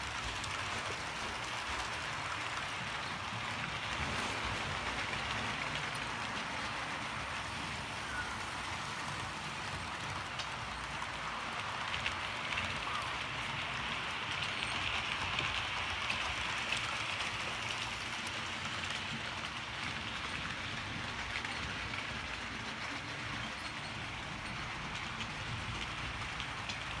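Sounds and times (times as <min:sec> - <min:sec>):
model trains whirring on track: 0:00.0 - 0:27.0.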